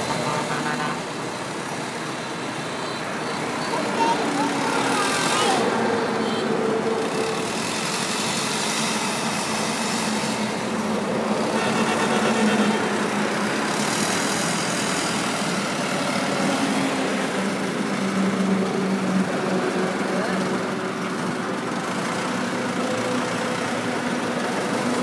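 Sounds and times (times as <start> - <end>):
wheel loader diesel engine running: 0.0 - 25.0.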